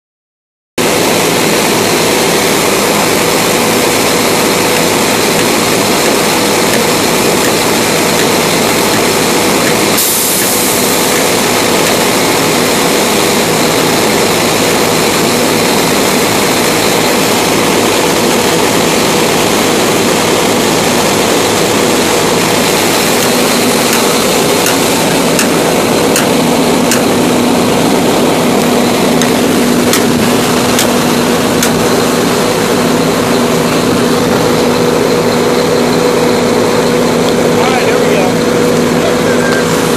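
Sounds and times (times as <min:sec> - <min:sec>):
low hum: 0:00.8 - 0:39.9
pump engine roaring: 0:00.8 - 0:39.9.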